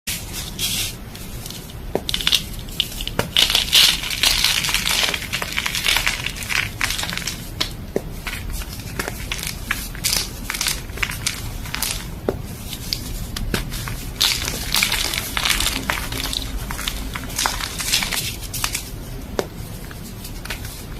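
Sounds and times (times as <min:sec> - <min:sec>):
chalk crunching and crumbling: 0:00.1 - 0:20.9.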